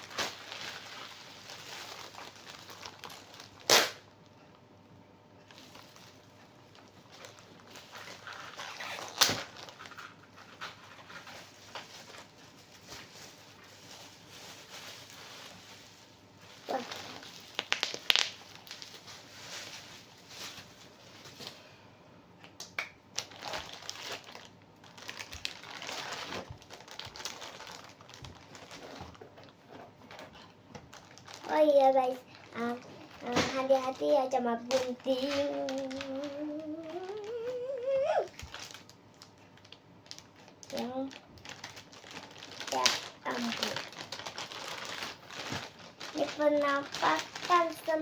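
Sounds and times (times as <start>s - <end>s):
plastic packaging rustling: 0.0s - 4.1s, 5.5s - 21.6s, 23.2s - 48.0s.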